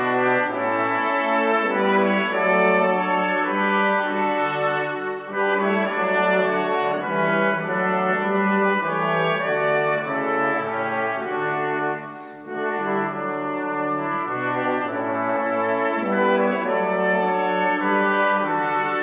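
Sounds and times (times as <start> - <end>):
brass ensemble playing slow chords: 0.0 - 19.0.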